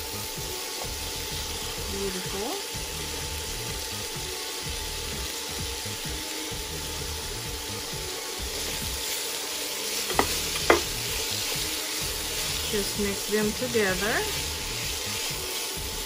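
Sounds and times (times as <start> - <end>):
frying sizzle: 0.0 - 16.0.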